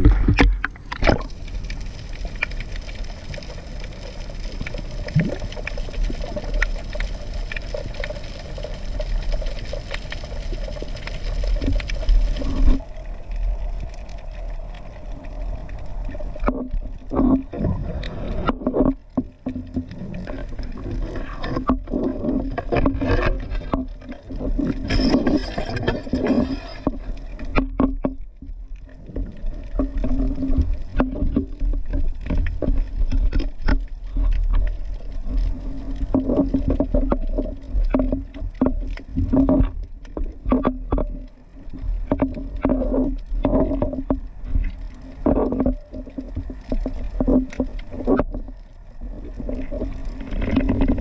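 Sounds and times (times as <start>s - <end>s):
underwater rumble: 0.0s - 51.0s
faint clicks: 0.3s - 51.0s.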